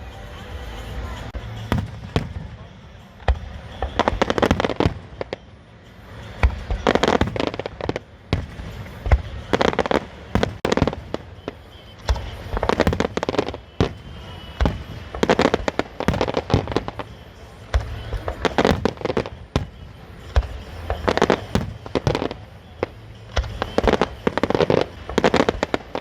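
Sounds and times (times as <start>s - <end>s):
fireworks crackling bangs: 1.4s - 26.0s
fireworks deep boom: 1.5s - 5.5s, 6.4s - 26.0s.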